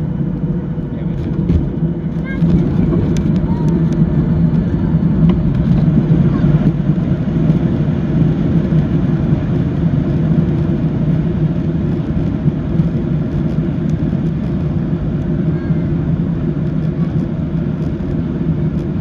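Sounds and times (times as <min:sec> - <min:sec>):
jet engine and airflow roar: 0:00.0 - 0:19.0.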